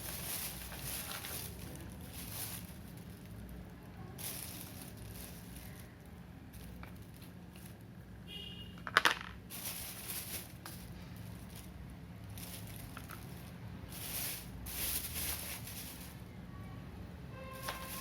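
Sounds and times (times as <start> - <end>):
crumbling and rustling: 0.0 - 8.0, 8.8 - 16.4, 17.5 - 18.0.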